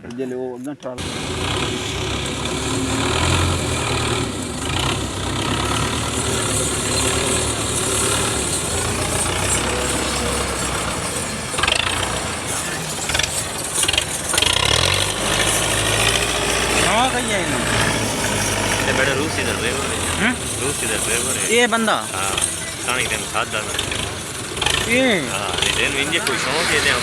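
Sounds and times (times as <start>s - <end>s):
tractor engine running: 1.0s - 27.0s.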